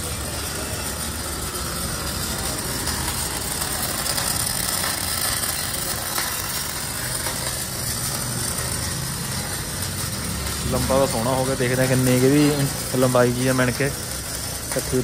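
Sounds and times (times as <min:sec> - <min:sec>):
welding arc hiss: 0:00.0 - 0:15.0
faint crackles: 0:00.4 - 0:15.0.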